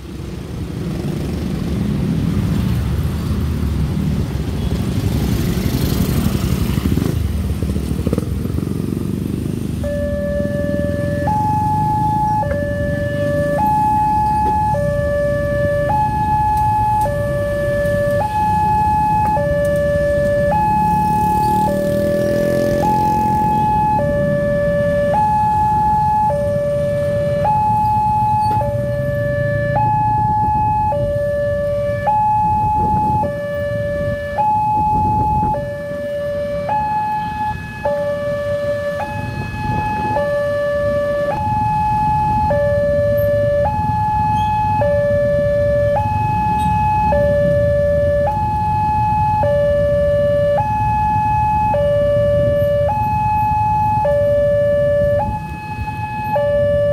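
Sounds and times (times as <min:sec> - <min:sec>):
road traffic rumble: 0:00.0 - 0:56.9
level crossing alarm: 0:09.8 - 0:56.9.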